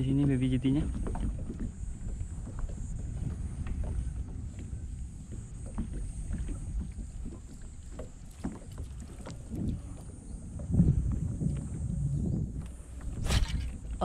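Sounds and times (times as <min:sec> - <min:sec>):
water lapping against kayak hull: 0:00.0 - 0:14.0
wind rumble on microphone: 0:00.0 - 0:14.0.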